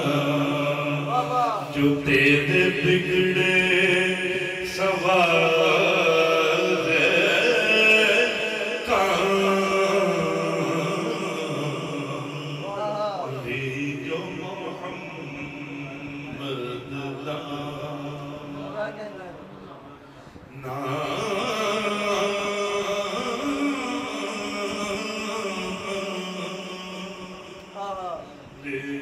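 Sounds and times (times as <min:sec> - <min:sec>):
man chanting: 0:00.0 - 0:19.8, 0:20.4 - 0:29.0.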